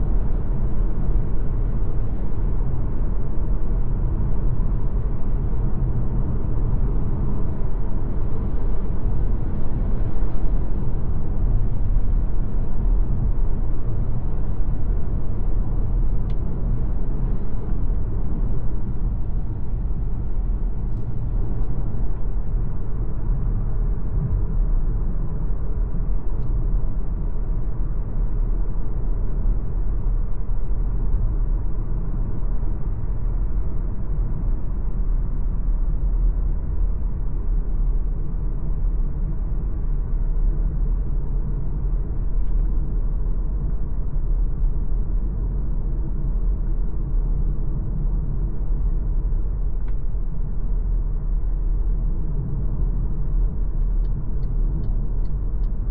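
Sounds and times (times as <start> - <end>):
car rumbling on the move: 0.0 - 55.9.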